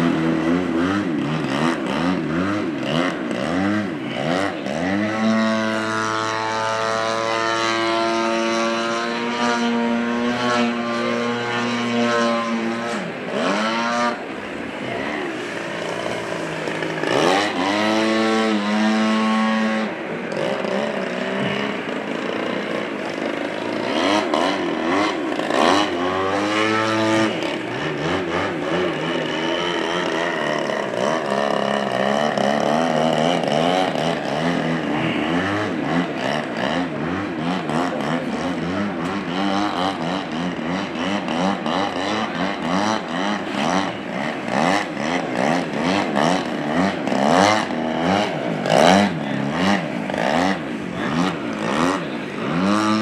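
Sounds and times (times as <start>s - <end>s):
model plane engine overhead: 0.0s - 53.0s.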